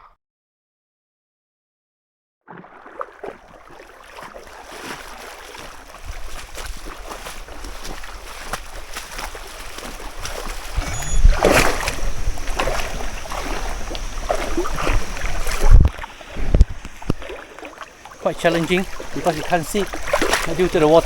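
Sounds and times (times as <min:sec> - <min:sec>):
people wading through river water: 0:02.5 - 0:21.0.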